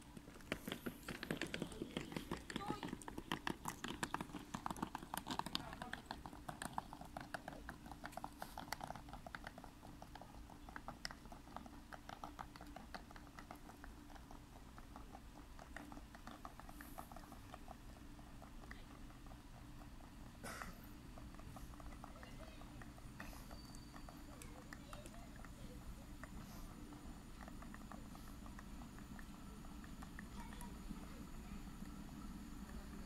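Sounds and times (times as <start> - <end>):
faint low hum: 0.0 - 33.0
suitcase wheels rolling over bricks: 0.0 - 33.0.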